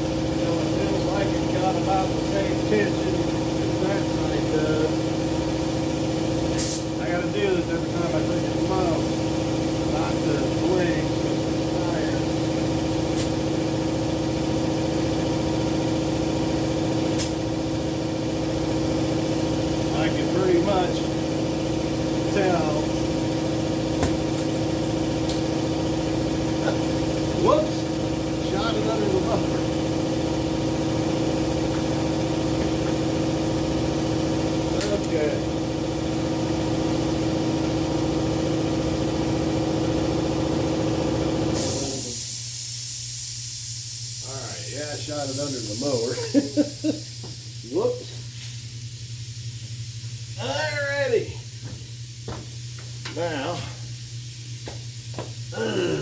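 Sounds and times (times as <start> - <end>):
air compressor motor humming: 0.0 - 56.0.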